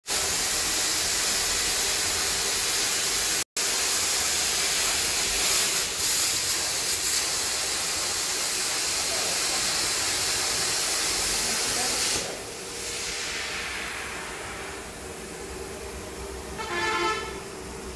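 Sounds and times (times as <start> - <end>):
plasma cutter torch hissing: 0.1 - 15.0.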